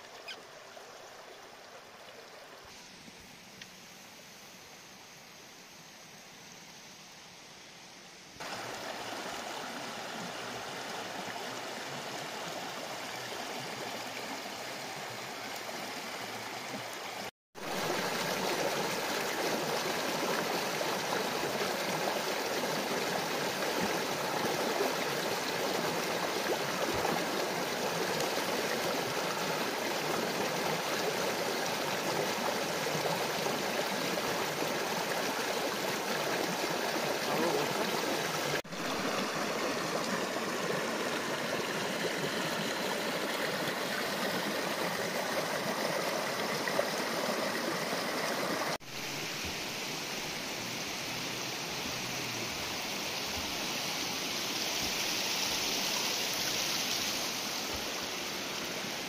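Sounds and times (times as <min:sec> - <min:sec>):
stream rushing over rocks: 0:08.4 - 0:59.0.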